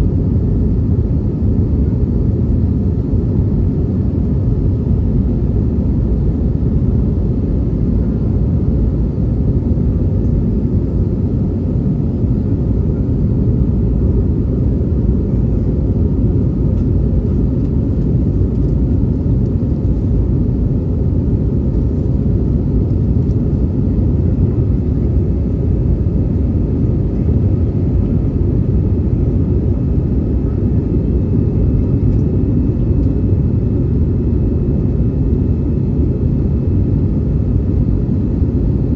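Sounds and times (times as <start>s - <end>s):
aircraft engine roar in cabin: 0.0s - 38.9s.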